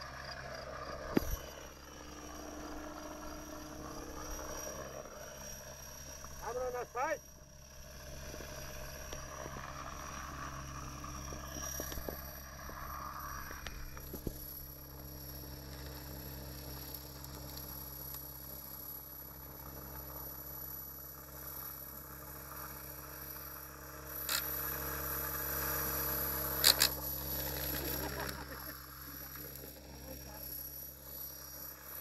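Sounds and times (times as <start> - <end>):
rc helicopter hum and whine: 0.0 - 32.0.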